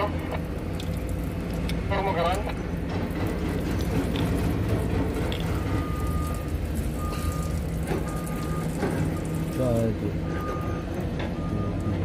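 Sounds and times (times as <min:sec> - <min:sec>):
diesel machinery rumbling: 0:00.0 - 0:12.0.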